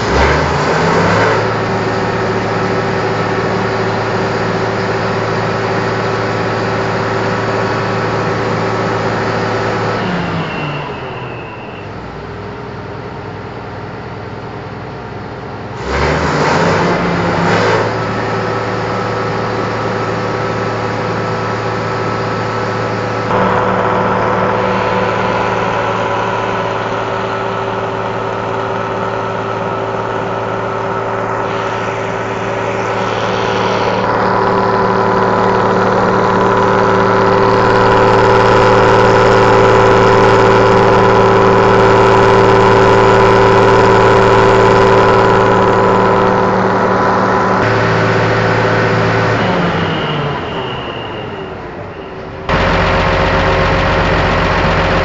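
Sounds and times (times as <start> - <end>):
diesel engine with rasping exhaust: 0.0 - 55.0.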